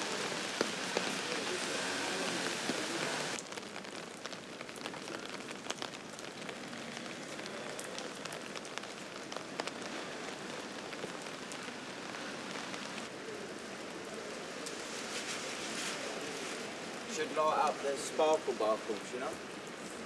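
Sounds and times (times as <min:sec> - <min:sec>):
raindrops ticking close by: 0:00.0 - 0:20.0
steady rain: 0:00.0 - 0:20.0.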